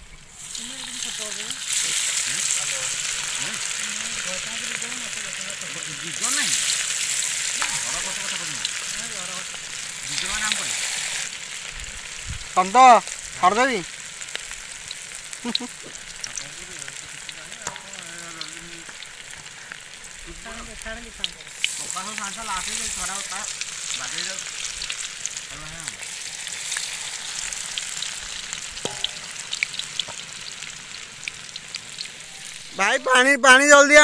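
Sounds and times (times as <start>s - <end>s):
oil popping and crackling: 0.0s - 32.9s
hot oil sizzling: 0.0s - 34.0s.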